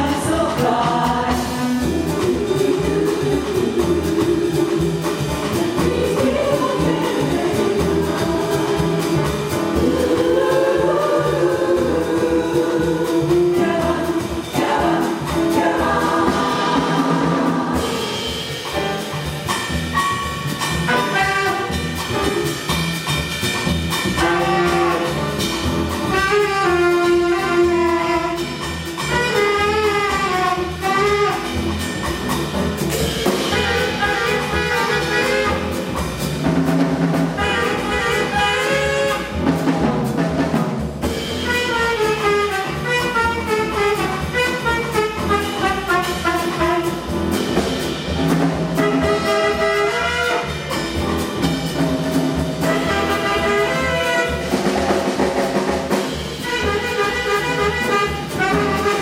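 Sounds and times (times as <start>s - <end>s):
jazz chorus singing: 0.0s - 59.0s
small jazz band playing: 0.0s - 59.0s.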